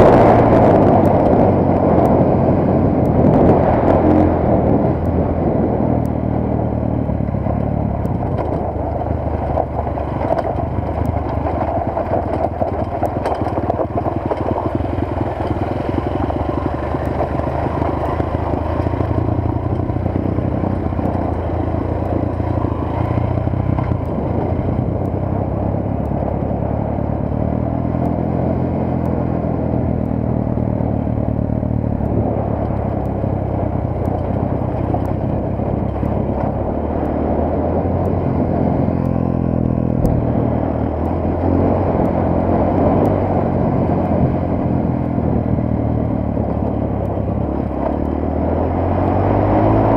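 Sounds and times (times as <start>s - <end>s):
motorcycle engine running: 0.0s - 49.9s
road noise: 0.0s - 49.9s
wind noise: 0.0s - 49.9s.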